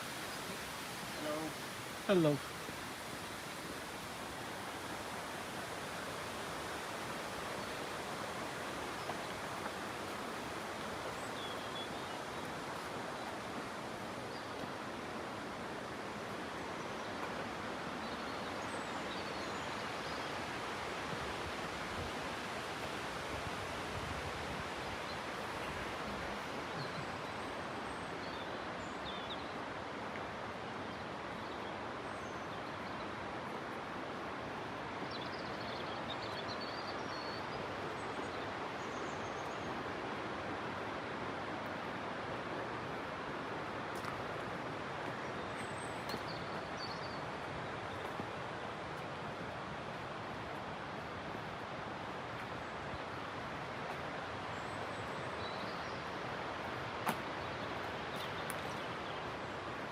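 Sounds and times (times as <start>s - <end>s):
running water rushing: 0.0s - 35.0s, 37.0s - 59.9s.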